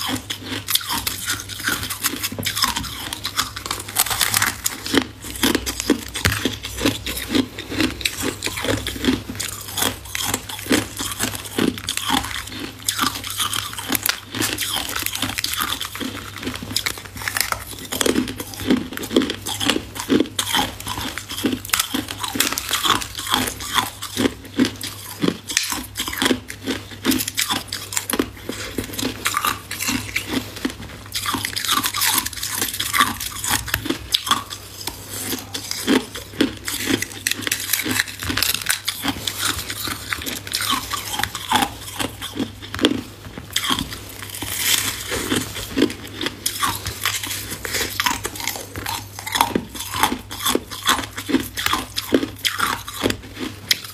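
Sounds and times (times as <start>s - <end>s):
person chewing ice: 0.0s - 53.9s.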